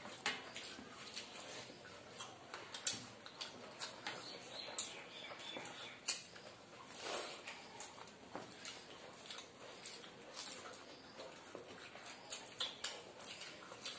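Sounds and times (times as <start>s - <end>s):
chewing and lip smacks: 0.0s - 13.9s.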